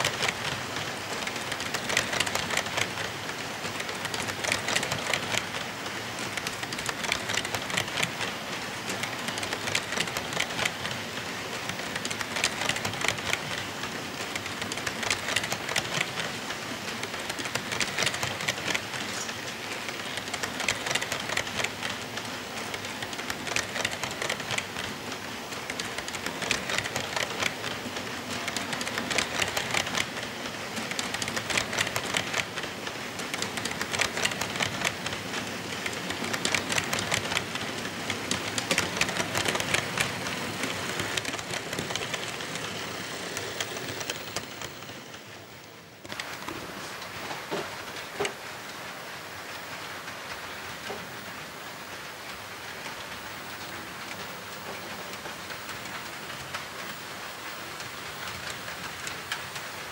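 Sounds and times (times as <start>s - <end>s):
clicks over rail joints: 0.0s - 59.9s
model train wheels rattling: 0.0s - 59.9s.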